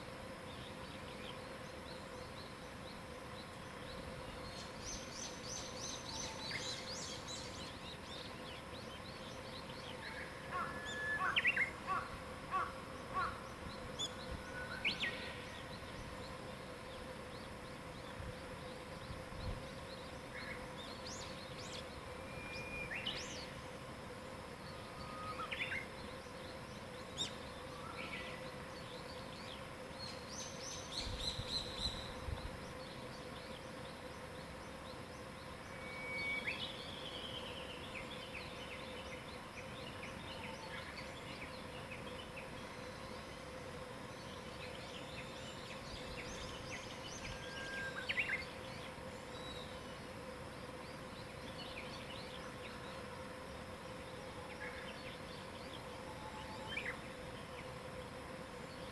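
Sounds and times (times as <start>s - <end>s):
faint steady hum: 0.0s - 58.9s.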